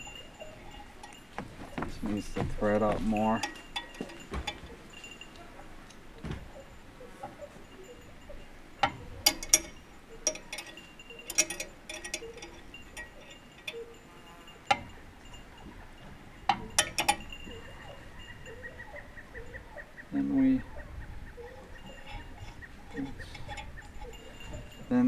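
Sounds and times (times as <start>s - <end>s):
small metal hardware clinking: 0.0s - 19.8s, 20.6s - 25.0s.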